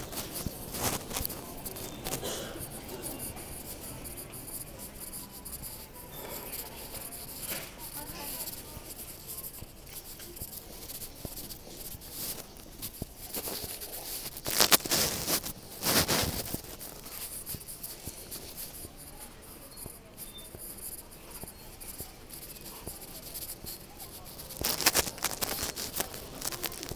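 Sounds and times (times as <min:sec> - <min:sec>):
shop background ambience: 0:00.0 - 0:26.9.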